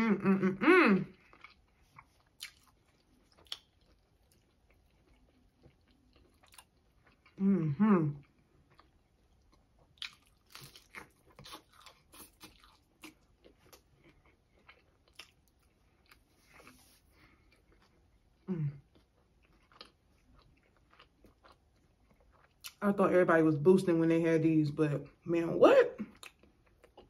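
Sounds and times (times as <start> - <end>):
chewing and crunching taco: 0.4 - 23.0, 26.0 - 27.0.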